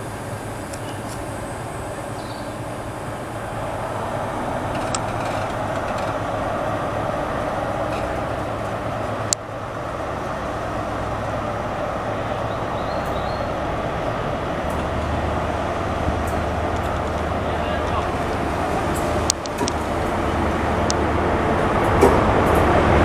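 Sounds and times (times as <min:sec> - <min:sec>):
passenger train pulling out: 0:00.0 - 0:23.0.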